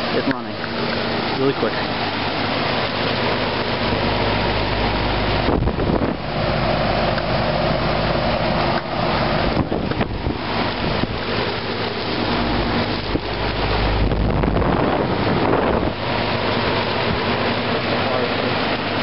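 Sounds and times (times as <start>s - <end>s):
air conditioner hum and air rush: 0.0s - 19.0s.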